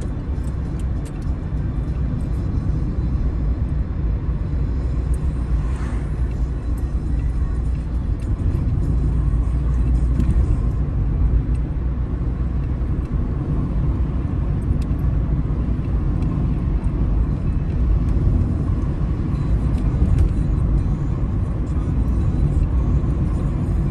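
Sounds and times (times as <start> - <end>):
car interior road rumble: 0.0 - 23.9.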